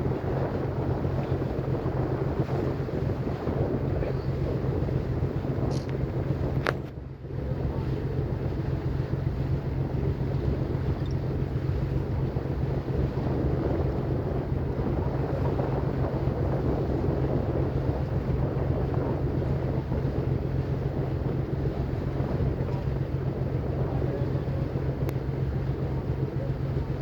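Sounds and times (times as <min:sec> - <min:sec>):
boat engine drone: 0:00.0 - 0:27.0
wind buffeting microphone: 0:00.0 - 0:27.0.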